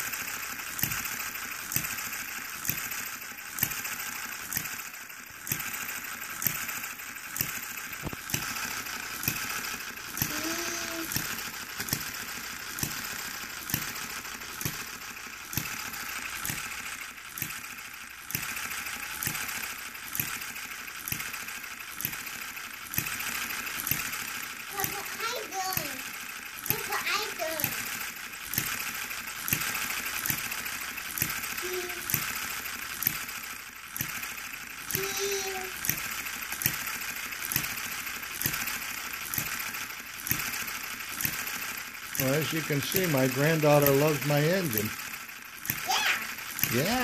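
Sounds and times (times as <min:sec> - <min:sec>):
mechanical clatter: 0:00.0 - 0:47.0
gas engine firing: 0:00.1 - 0:47.0.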